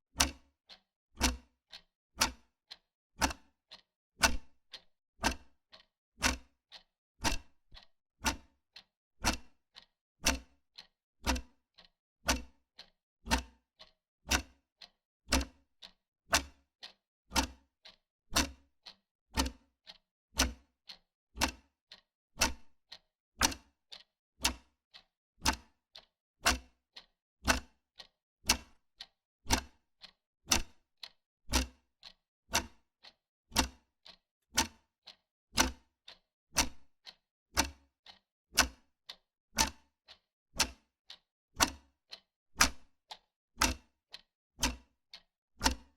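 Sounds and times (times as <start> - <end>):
wall clock ticking: 2.2 - 2.4, 3.2 - 8.5, 10.3 - 19.5, 20.4 - 21.7, 22.4 - 22.6, 23.4 - 28.8, 29.5 - 41.9, 42.6 - 45.8.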